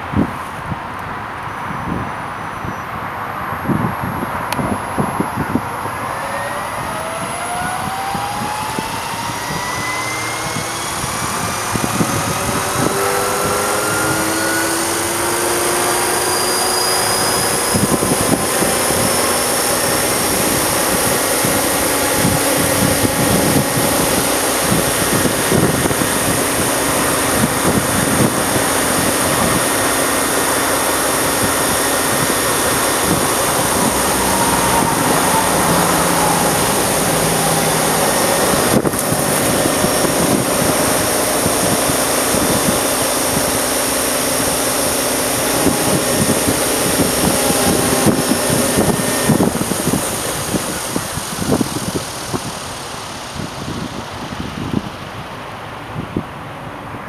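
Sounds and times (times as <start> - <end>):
wind buffeting microphone: 0.0 - 57.0
rc helicopter motor whine: 4.1 - 55.0.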